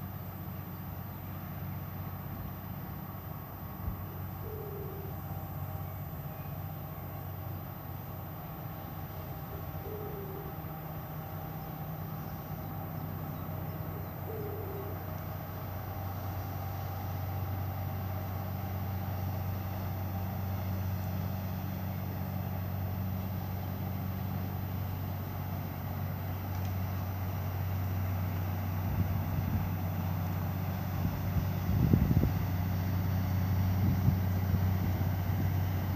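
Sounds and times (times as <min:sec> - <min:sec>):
ship engines droning: 0:00.0 - 0:35.9.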